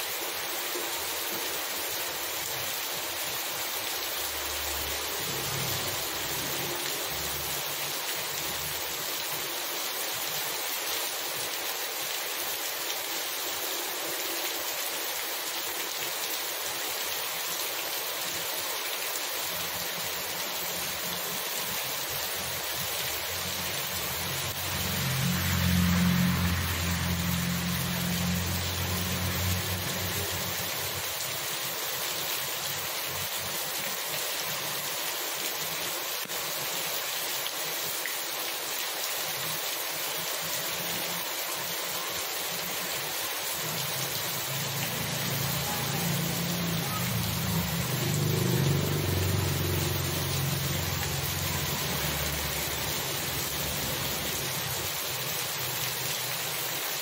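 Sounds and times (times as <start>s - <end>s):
heavy rain on wet pavement: 0.0s - 57.0s.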